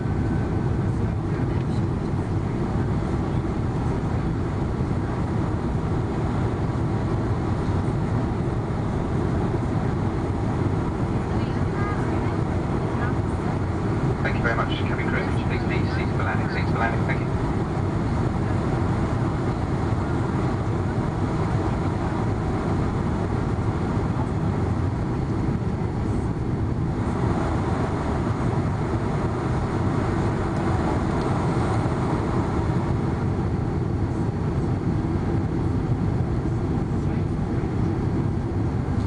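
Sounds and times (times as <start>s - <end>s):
airliner cabin engine rush: 0.0s - 39.0s.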